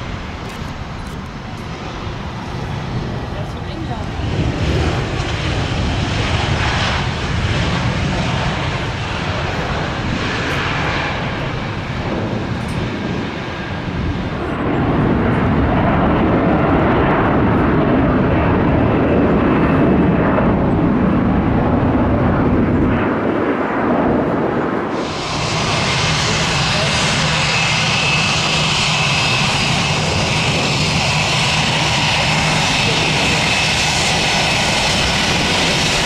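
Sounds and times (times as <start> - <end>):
jet engines rumbling at takeoff: 0.0 - 36.0
jet engines rushing on runway: 0.0 - 36.0.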